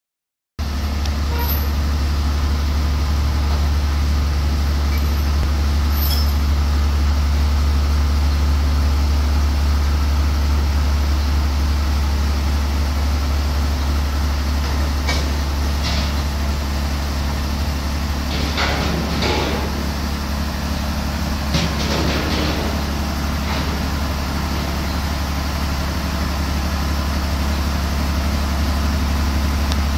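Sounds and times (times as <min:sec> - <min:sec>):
diesel engine humming: 0:00.6 - 0:29.9.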